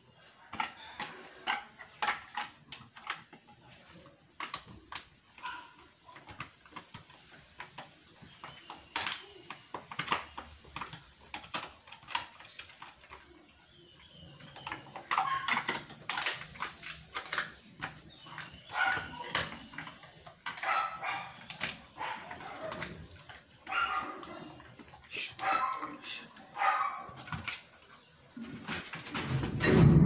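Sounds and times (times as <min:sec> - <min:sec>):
dog crunching bones: 0:00.4 - 0:28.2.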